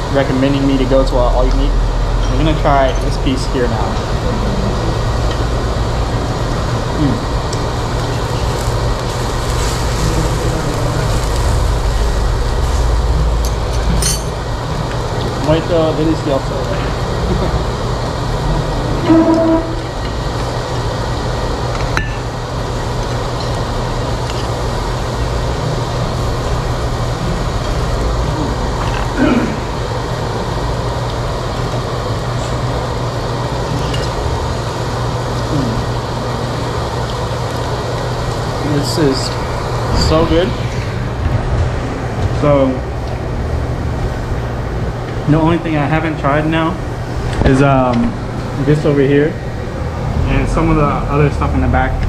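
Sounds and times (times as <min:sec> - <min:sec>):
extraction fan rushing: 0:00.0 - 0:52.0.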